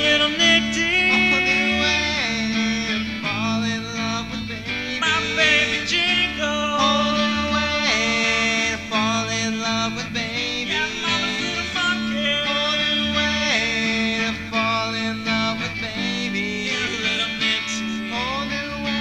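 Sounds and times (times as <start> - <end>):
country instrumental music: 0.0 - 19.0
guitar: 0.0 - 19.0
steady bass: 0.0 - 19.0.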